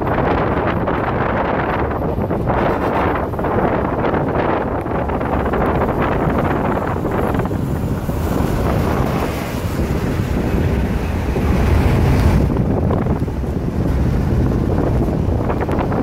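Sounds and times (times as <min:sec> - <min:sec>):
moving train running noise: 0:00.0 - 0:16.0
wind buffeting microphone: 0:00.0 - 0:16.0.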